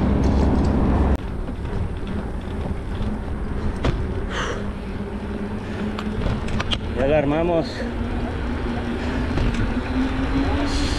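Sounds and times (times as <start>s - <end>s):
bicycle road and wind noise: 0.0s - 10.9s.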